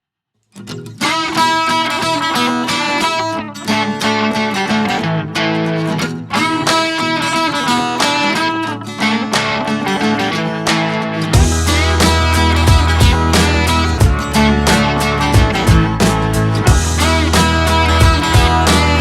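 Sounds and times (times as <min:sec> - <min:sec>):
guitar music: 0:00.5 - 0:19.0.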